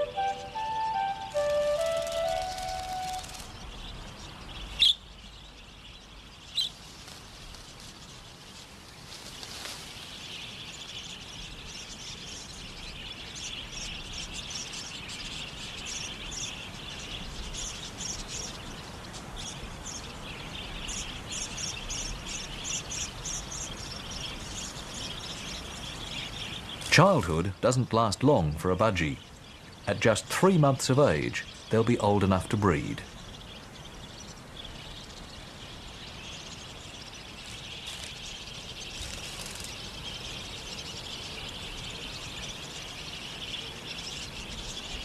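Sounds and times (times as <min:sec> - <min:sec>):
budgerigars chirping: 0:00.0 - 0:06.8, 0:07.6 - 0:45.0.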